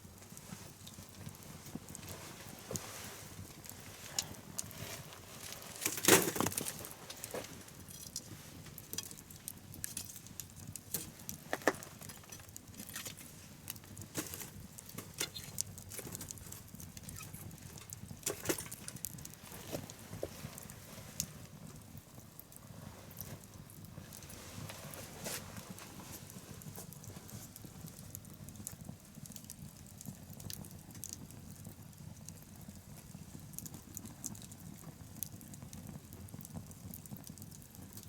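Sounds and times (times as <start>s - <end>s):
bonfire crackling and popping: 0.0s - 38.0s.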